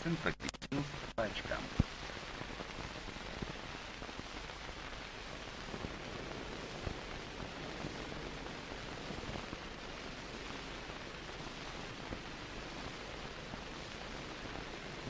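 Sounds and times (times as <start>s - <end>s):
old film soundtrack hiss: 0.0s - 15.0s.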